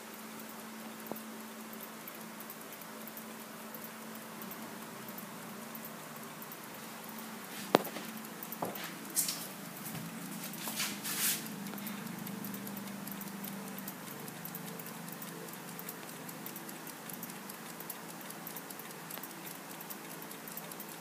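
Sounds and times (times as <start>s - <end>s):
clock ticking: 0.0s - 21.0s
faint steady hum: 0.0s - 21.0s.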